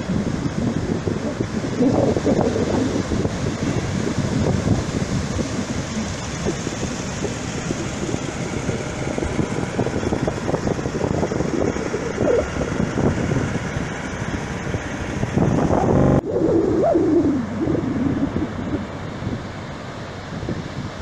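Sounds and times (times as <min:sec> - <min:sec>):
breaking surf: 0:00.0 - 0:21.0
wind buffeting microphone: 0:00.0 - 0:21.0.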